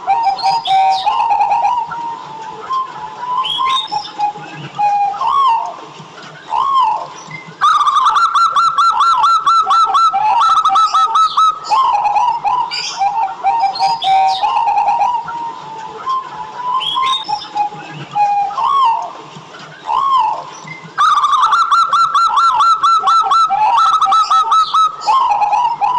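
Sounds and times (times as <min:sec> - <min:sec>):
doves cooing: 0:00.0 - 0:25.9
fast run of clipped bird notes: 0:00.0 - 0:25.9.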